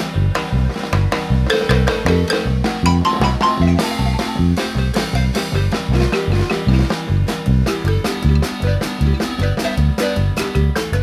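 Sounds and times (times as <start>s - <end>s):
bass and drum beat: 0.0s - 11.0s
marimba notes: 1.4s - 11.0s.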